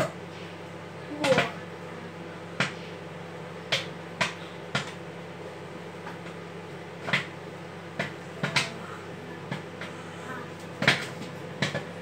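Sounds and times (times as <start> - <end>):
microwave oven humming: 0.0 - 12.0
popcorn popping: 1.0 - 1.8, 2.5 - 12.0.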